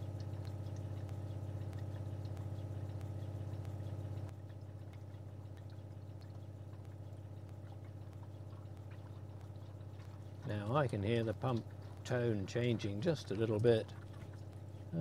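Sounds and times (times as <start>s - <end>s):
water pump pulsing hum: 0.0s - 15.0s.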